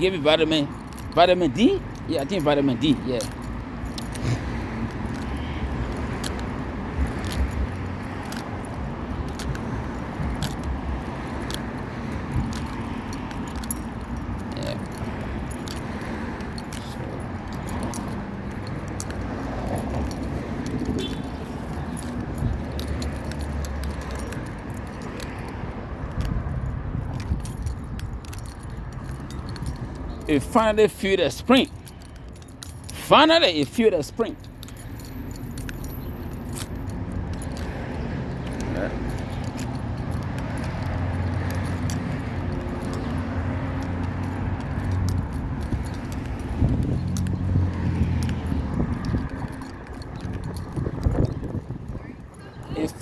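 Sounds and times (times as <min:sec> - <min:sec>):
handling clicks and rustles: 0:00.0 - 0:53.0
low traffic rumble: 0:00.0 - 0:53.0.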